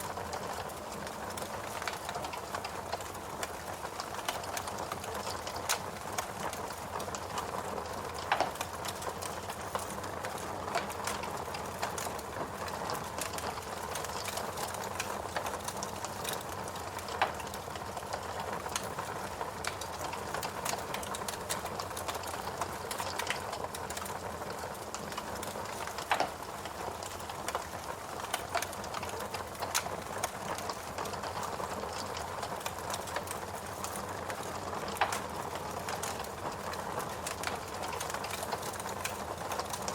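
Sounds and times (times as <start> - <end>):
fireplace crackling: 0.0 - 39.9.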